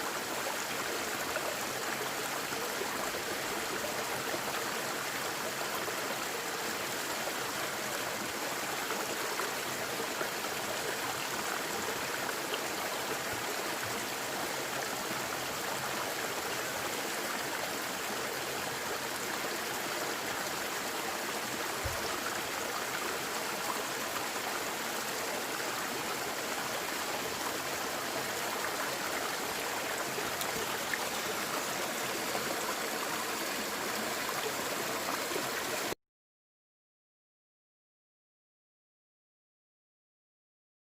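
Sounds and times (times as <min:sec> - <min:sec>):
stream water rushing: 0:00.0 - 0:35.9.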